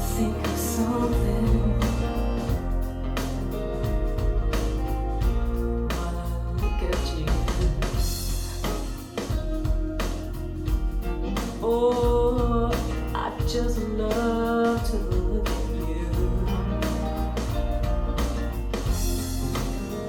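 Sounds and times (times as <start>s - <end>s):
rock song through speakers: 0.0s - 20.0s.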